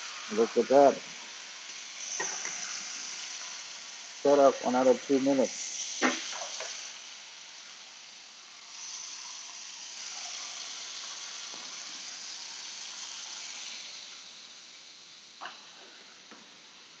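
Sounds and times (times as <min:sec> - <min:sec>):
steaks sizzling in a frying pan: 0:00.0 - 0:17.0.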